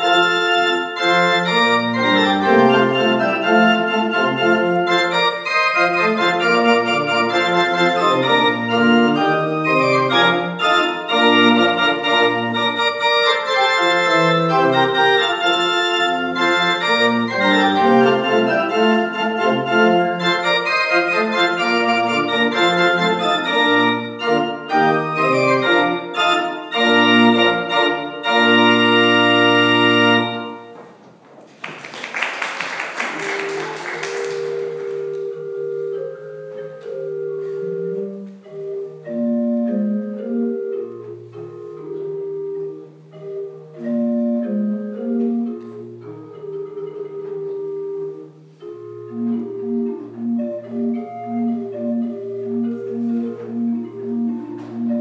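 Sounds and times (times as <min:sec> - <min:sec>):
church pipe organ playing: 0:00.0 - 0:30.8, 0:33.3 - 0:55.0.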